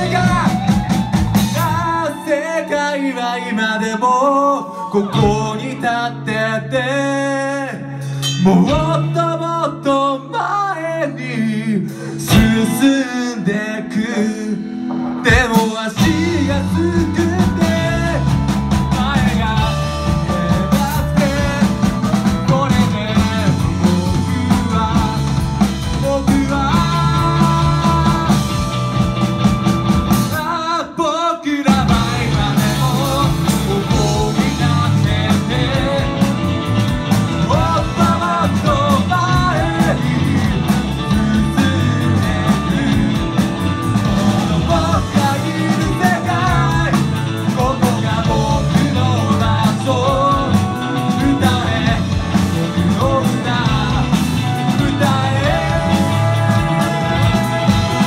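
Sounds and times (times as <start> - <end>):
person singing: 0.0 - 29.0, 30.2 - 58.0
rock band playing: 0.0 - 58.0.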